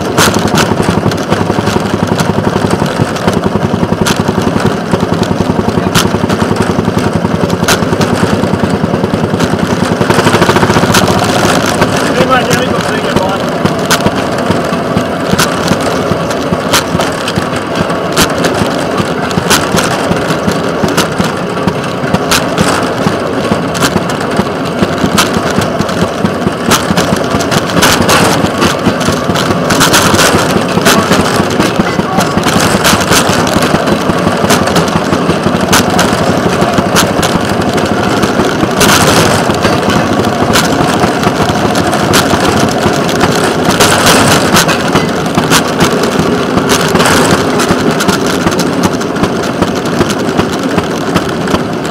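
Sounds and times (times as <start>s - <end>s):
rail car engine running: 0.0s - 51.9s
wheels clicking on rails: 0.0s - 51.9s.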